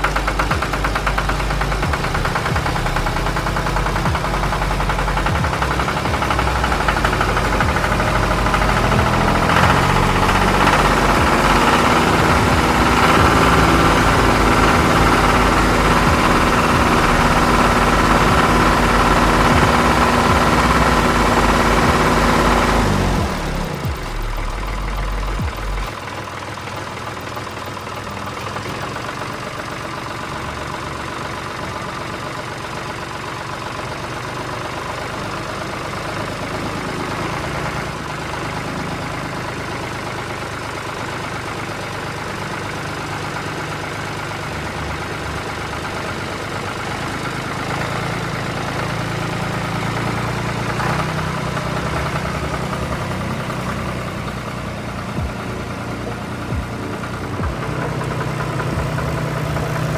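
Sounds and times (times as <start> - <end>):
tractor engine chugging: 0.0 - 59.9.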